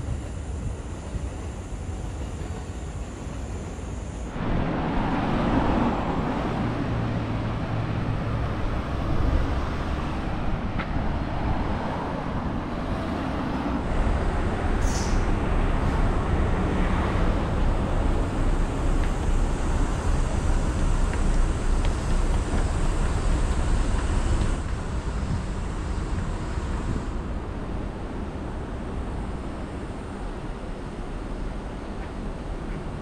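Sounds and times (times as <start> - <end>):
cars running on city road: 0.0 - 33.0.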